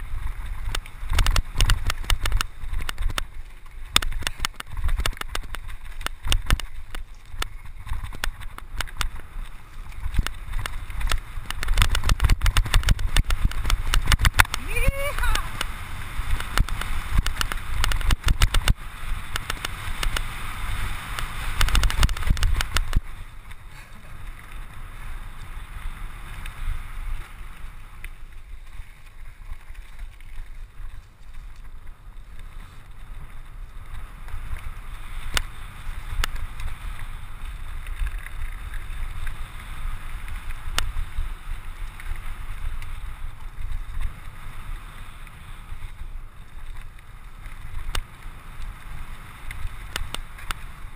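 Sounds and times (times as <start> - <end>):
bike rattling: 0.0 - 50.9
tyres rolling over leaves and dirt: 0.0 - 50.9.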